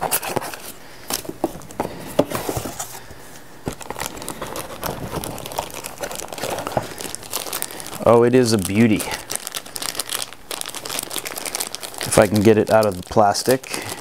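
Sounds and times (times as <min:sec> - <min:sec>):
cardboard and paper rustling: 0:00.0 - 0:14.0.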